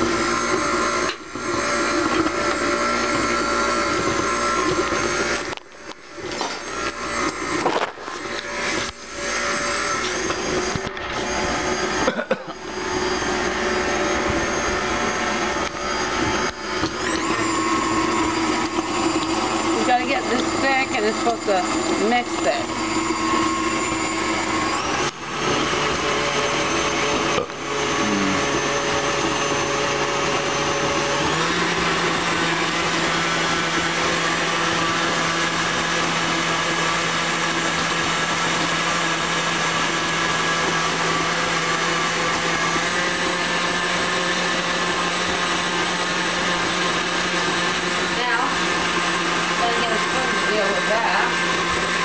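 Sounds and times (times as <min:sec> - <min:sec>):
stand mixer motor running: 0:00.0 - 0:52.0.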